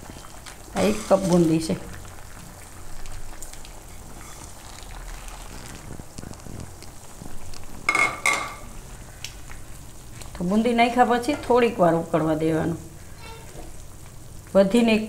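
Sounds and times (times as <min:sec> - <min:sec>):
gravy simmering and bubbling: 0:00.0 - 0:15.0.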